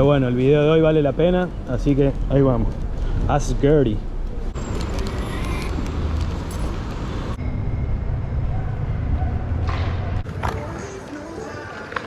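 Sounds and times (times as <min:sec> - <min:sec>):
low rumble of street traffic: 0:00.0 - 0:12.0.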